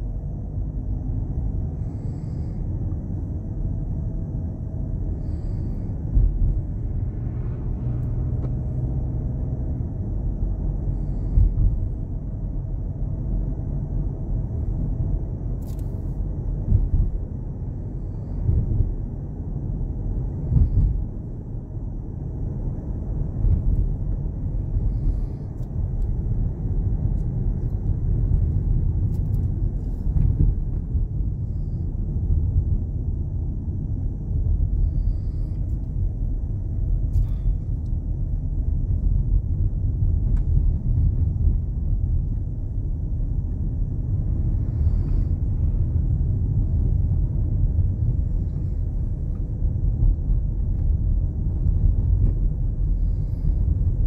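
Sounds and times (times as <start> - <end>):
car engine and tyre road noise: 0.0 - 54.0.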